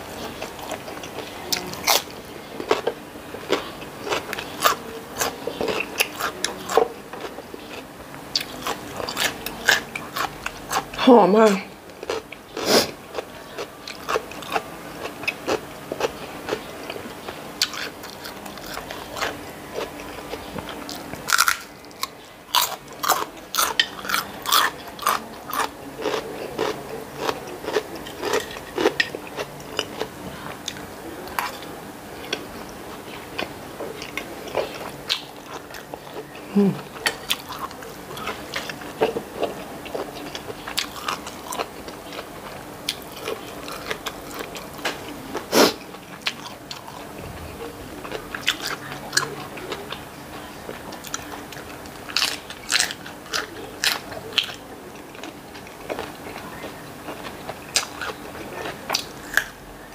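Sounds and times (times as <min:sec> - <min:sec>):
crunchy chewing of vegetables: 0:00.0 - 0:59.9.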